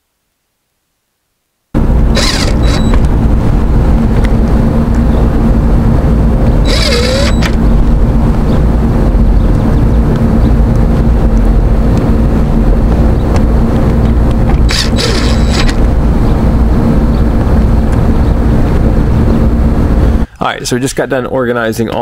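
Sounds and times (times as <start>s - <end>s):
hvac unit humming: 1.7s - 22.0s.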